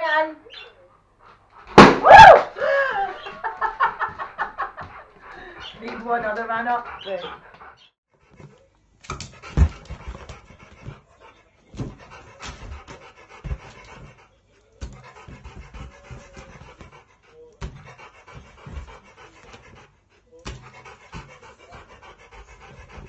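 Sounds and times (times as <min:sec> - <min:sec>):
dog panting: 0:00.4 - 0:01.8, 0:02.6 - 0:23.0.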